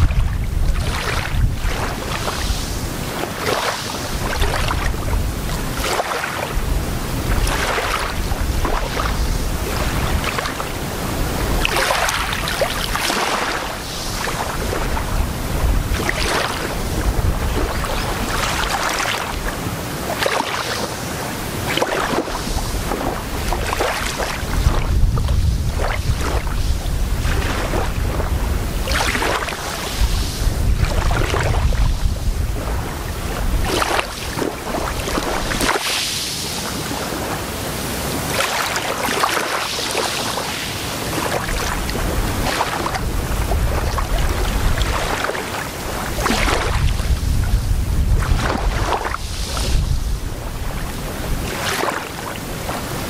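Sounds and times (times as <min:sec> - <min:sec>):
small waves lapping on sand: 0:00.0 - 0:53.0
wind rumbling on microphone: 0:00.0 - 0:53.0.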